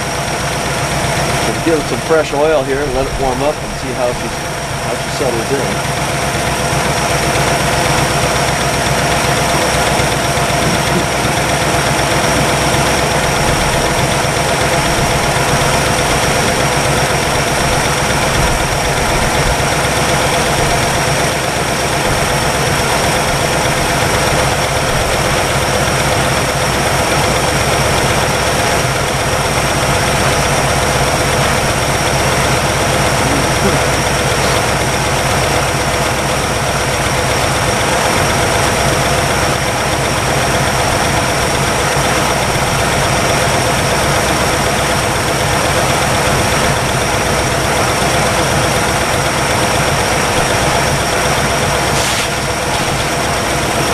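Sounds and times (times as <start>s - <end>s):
car engine idling: 0.0s - 53.9s
valvetrain ticking: 0.0s - 53.9s.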